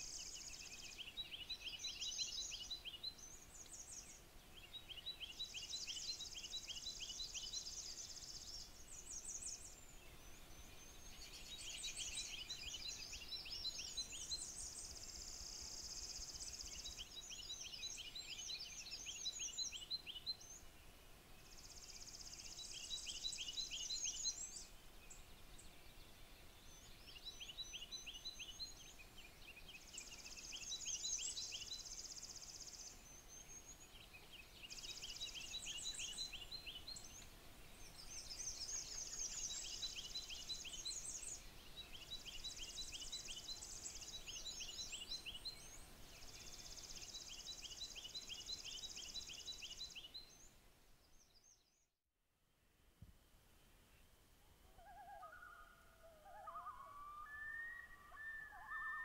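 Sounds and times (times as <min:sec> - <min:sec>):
songbirds chirping: 0:00.0 - 0:51.9, 0:52.9 - 0:59.0.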